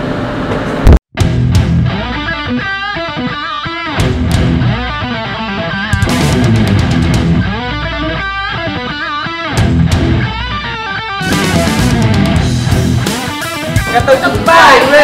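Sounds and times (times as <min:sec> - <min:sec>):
rock music: 0:01.2 - 0:15.0.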